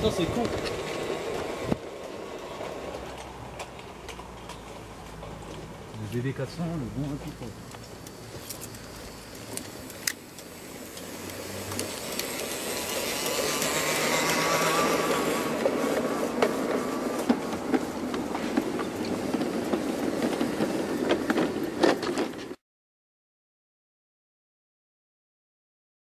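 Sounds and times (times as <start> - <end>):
model train rolling on track: 0.0 - 22.6
wheels clicking over rail joints: 0.0 - 22.6.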